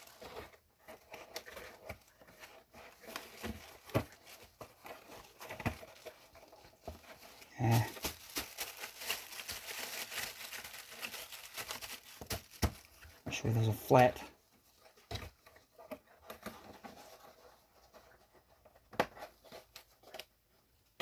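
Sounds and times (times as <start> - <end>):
handling parts and packaging: 0.0 - 21.0.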